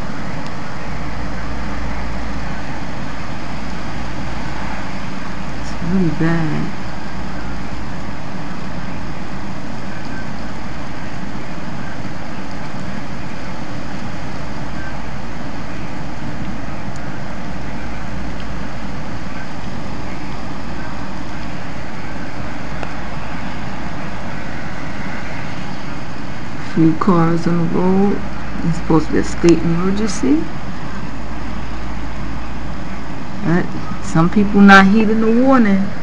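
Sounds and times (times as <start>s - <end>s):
heavy rain: 0.0s - 36.0s
hurricane wind: 0.0s - 36.0s.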